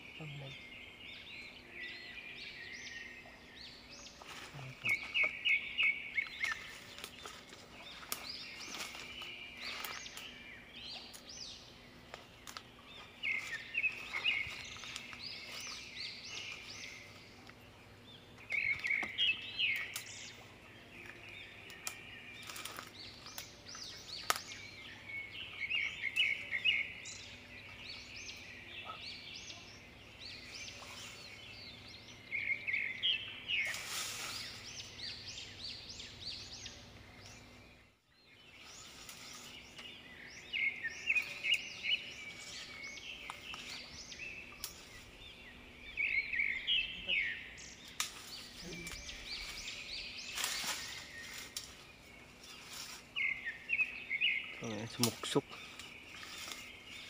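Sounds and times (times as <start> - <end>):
birds chirping: 0.0 - 57.0
footsteps crackling dry leaves: 4.0 - 17.8, 18.4 - 28.4, 30.2 - 36.6, 38.3 - 57.0.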